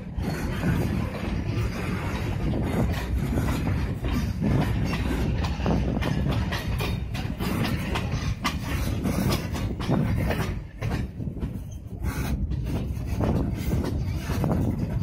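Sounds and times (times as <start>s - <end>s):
train rumble: 0.0s - 15.0s
wheels clacking over rail joints: 0.0s - 15.0s.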